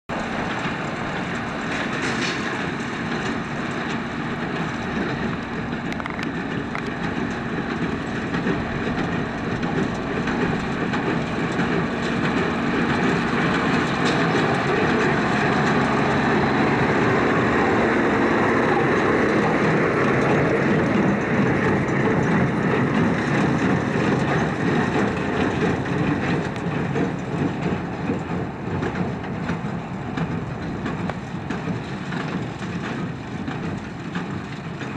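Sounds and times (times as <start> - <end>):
machinery noise: 0.0 - 34.9
tractor engine drone: 0.0 - 34.9.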